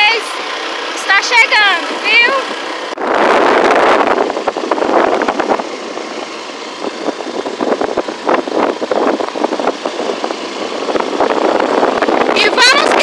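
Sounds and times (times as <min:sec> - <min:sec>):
vehicle engine running: 0:00.0 - 0:13.0
wind buffeting microphone: 0:01.8 - 0:13.0.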